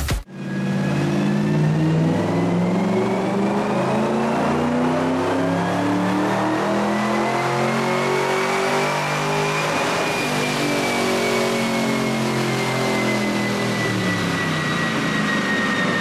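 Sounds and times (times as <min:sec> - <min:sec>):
supercharger whine: 0:00.0 - 0:16.0.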